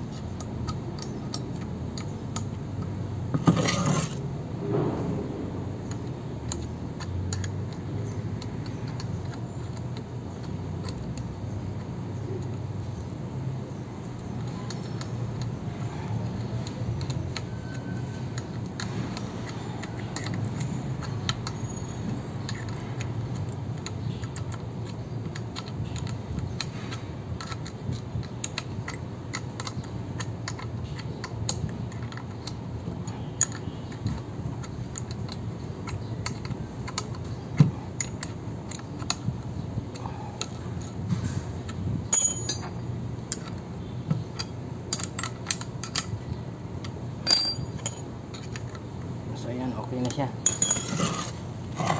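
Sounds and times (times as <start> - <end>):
wrench clicking on metal bolts: 0.0 - 4.1, 5.8 - 41.0, 41.7 - 48.8, 50.0 - 51.3.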